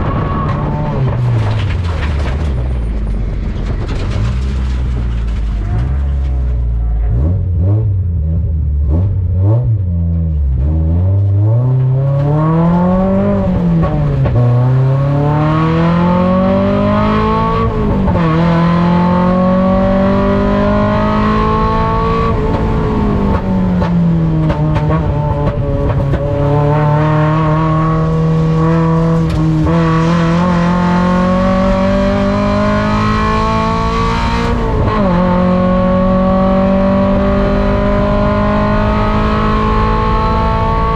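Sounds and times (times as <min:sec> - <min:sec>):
race car engine accelerating: 0:05.2 - 0:40.9.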